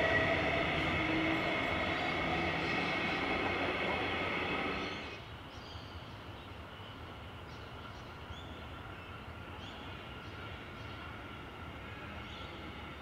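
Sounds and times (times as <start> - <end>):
electric train: 0.0 - 5.3, 7.3 - 13.0.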